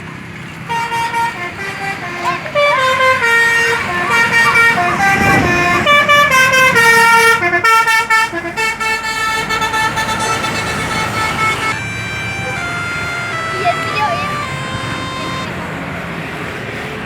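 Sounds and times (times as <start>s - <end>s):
bus multi-tone horn tune: 0.0s - 17.0s.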